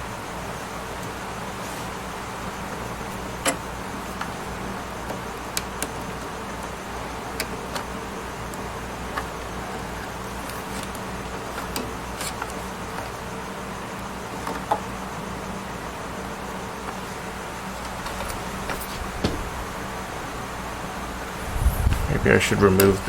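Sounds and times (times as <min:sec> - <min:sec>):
steady hum and hiss: 0:00.0 - 0:23.0.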